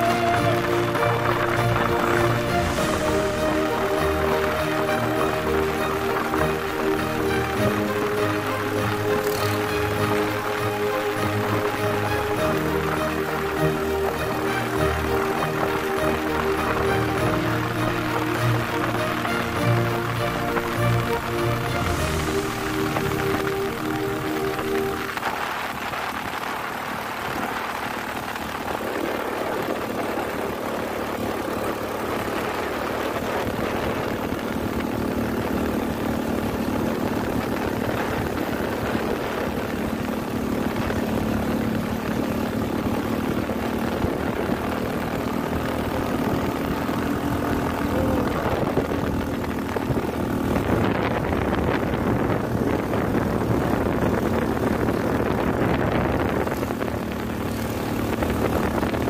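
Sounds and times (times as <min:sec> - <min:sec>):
scooter engine under load: 0:00.0 - 0:59.0
wind rushing over microphone: 0:00.0 - 0:59.0.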